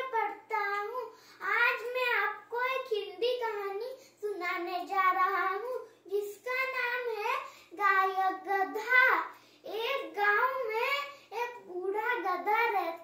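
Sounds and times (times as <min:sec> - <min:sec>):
boy chanting a story: 0:00.0 - 0:13.0.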